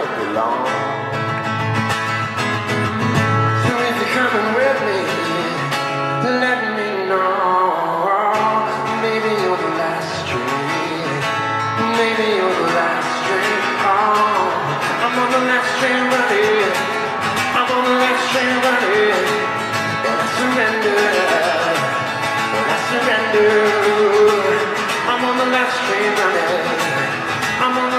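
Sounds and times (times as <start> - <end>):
amplified acoustic guitar strumming: 0.0 - 27.9.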